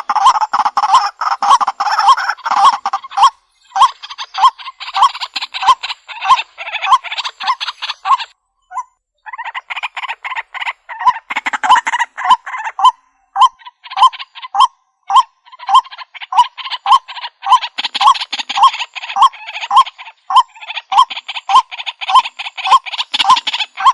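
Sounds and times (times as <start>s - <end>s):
waterhen rasping calls: 0.0s - 23.9s.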